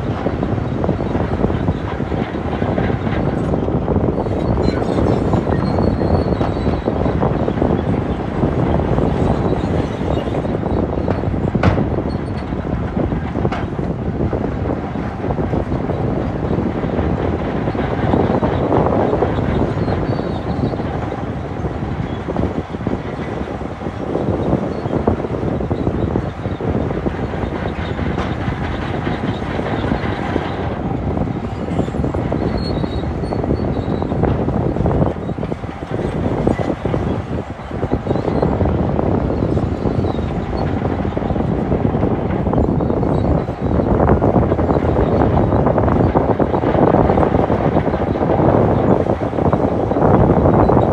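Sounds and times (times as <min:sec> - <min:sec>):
bulldozer diesel engine rumbling: 0:00.0 - 0:50.9.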